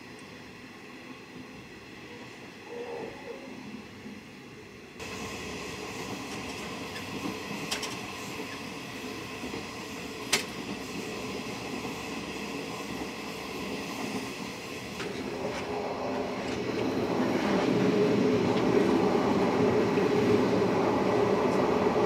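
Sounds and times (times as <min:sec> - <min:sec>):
train rumbling inside carriage: 0:00.0 - 0:22.0.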